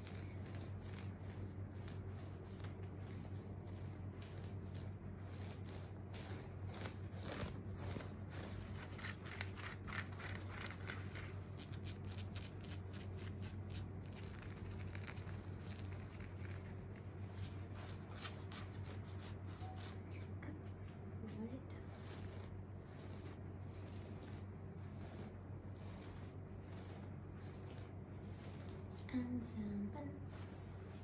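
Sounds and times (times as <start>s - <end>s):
rustling of fabric handling: 0.0s - 31.0s
steady low hum: 0.0s - 31.0s.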